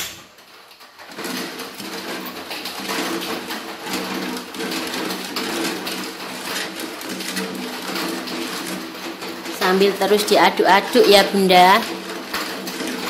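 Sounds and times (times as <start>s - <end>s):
plastic ladle scraping a pot: 1.1s - 13.0s.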